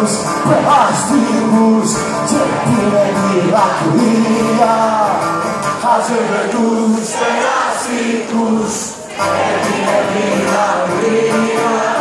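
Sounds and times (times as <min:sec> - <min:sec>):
guitars: 0:00.0 - 0:12.0.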